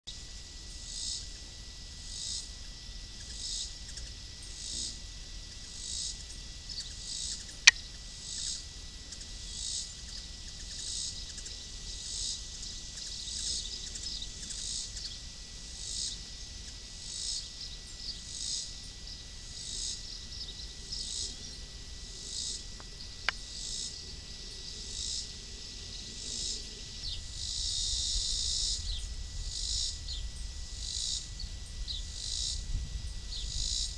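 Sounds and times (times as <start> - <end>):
insects chirping: 0.1 - 33.9.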